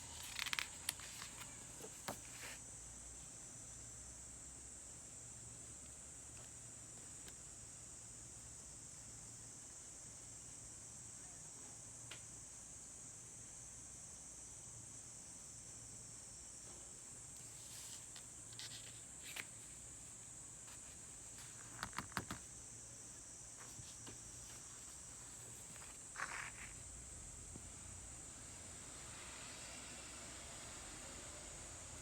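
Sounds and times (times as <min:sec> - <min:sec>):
steady high-pitched hiss: 0:00.0 - 0:32.0.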